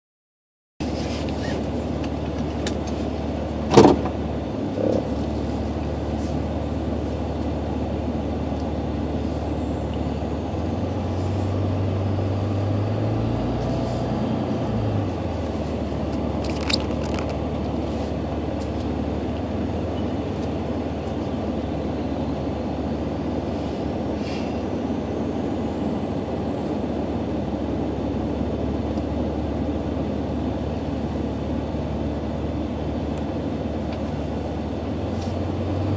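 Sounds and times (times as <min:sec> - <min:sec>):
car cabin road and engine rumble: 0:00.8 - 0:35.9.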